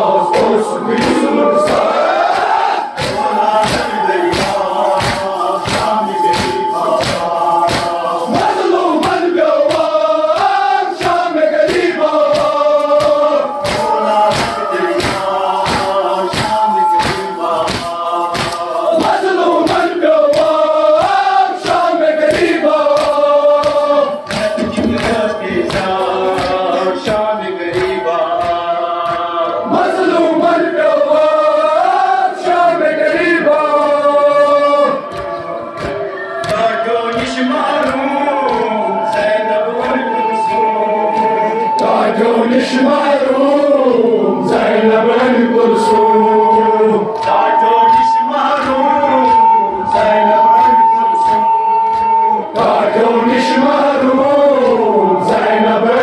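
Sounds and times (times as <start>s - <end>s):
men chanting in unison: 0.0s - 56.0s
rhythmic chest-beating strikes: 0.0s - 56.0s.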